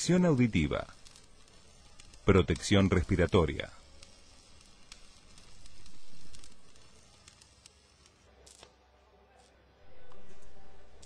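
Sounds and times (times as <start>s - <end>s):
faint crackling with clicks: 0.0s - 11.0s.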